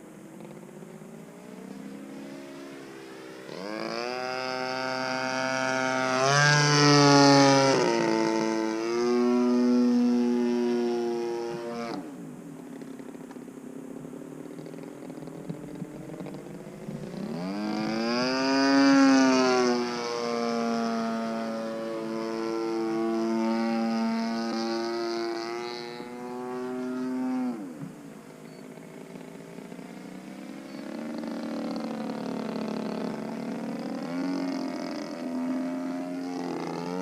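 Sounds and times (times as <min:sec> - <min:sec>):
model plane engine: 0:00.0 - 0:37.0.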